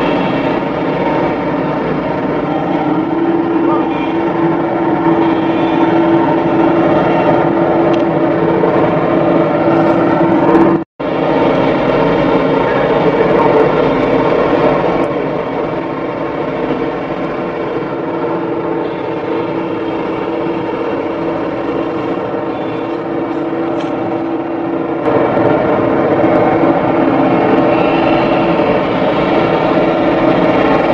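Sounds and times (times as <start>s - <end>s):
diesel excavator engine running: 0.0s - 30.9s.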